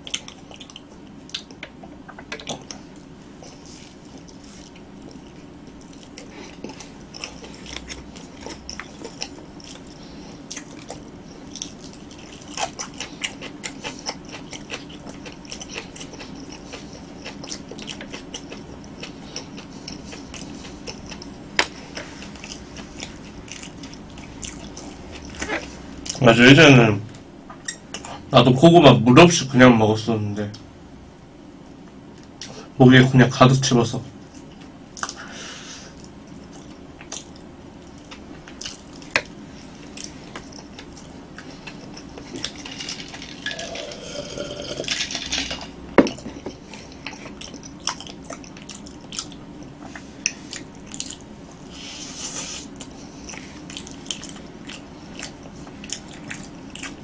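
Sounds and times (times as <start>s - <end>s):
close chewing: 0.0s - 1.7s, 2.4s - 26.2s, 35.9s - 57.0s
faint steady hum: 0.0s - 57.0s.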